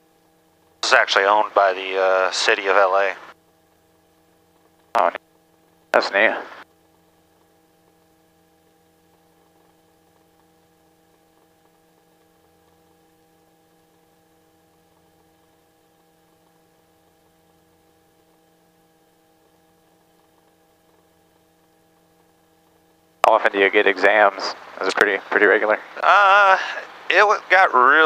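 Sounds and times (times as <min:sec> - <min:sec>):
faint electrical hum: 0:00.0 - 0:28.0.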